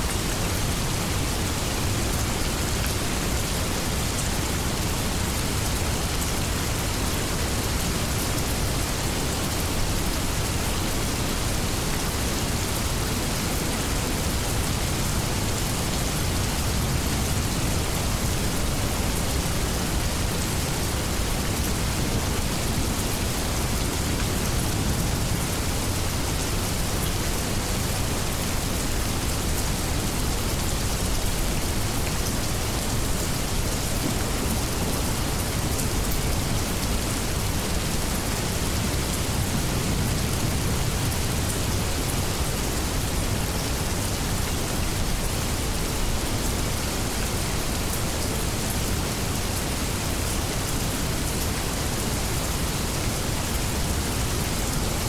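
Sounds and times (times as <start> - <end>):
heavy rain falling on leaves: 0.0 - 55.0.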